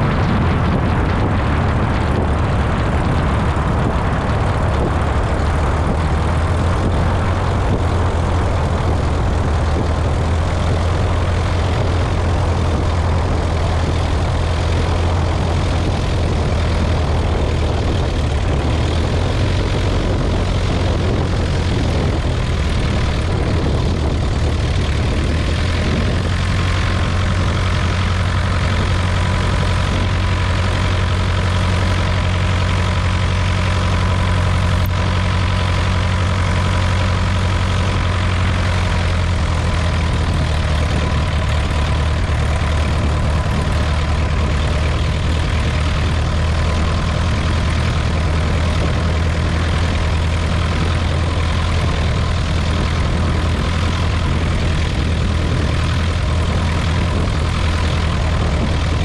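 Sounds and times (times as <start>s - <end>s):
airplane engine and propeller running: 0.0s - 59.0s.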